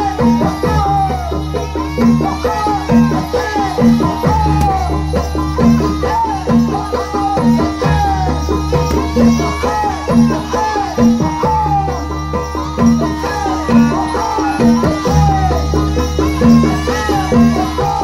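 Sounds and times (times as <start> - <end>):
percussion ensemble dance music: 0.0 - 18.0.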